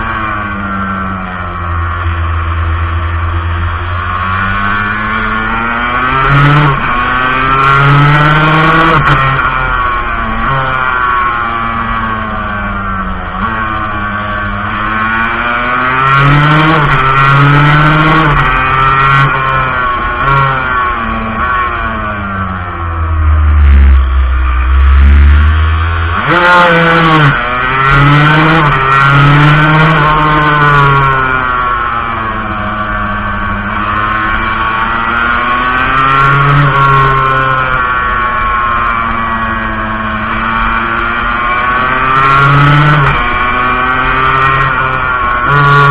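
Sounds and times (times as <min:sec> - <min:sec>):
two-stroke motorcycle engine revving: 0:00.0 - 0:45.9.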